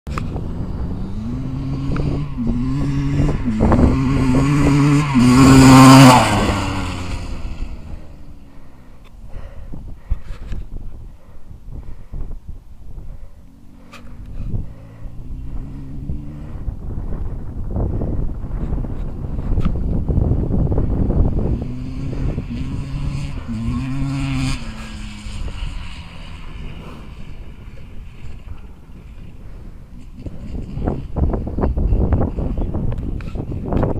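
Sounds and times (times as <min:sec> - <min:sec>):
motocross bike engine revving: 0:00.1 - 0:08.8, 0:13.8 - 0:18.2, 0:18.8 - 0:33.6.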